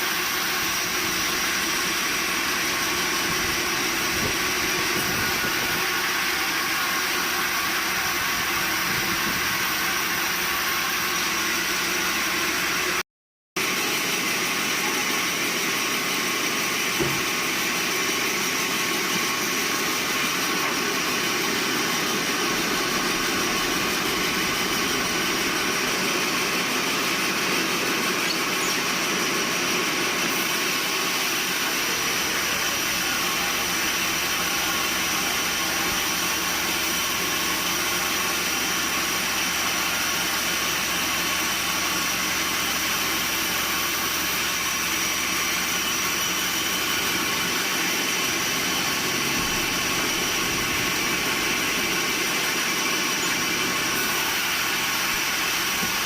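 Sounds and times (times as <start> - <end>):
sawmill machinery din: 0.0 - 13.0, 13.6 - 56.0.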